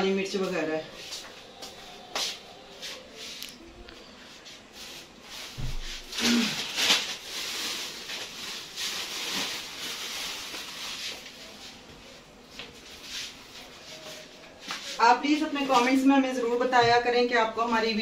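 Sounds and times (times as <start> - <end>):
plastic bags rustling: 0.7 - 16.6.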